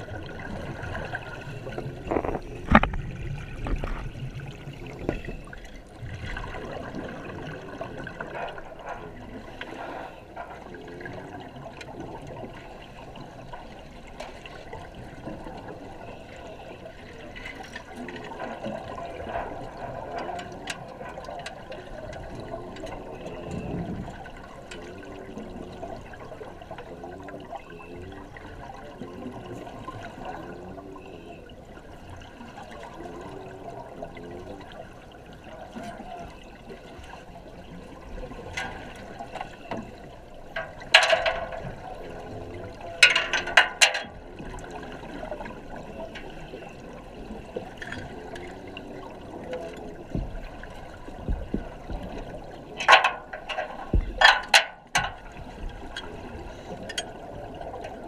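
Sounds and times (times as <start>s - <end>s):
water bubbling and gurgling: 0.0s - 58.0s.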